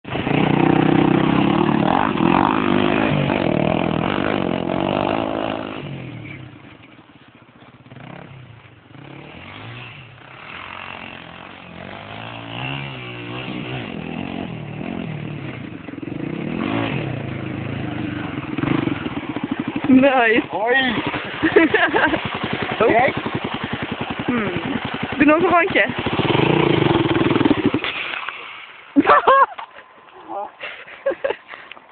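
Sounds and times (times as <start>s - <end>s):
motorcycle engine revving: 0.1s - 29.4s.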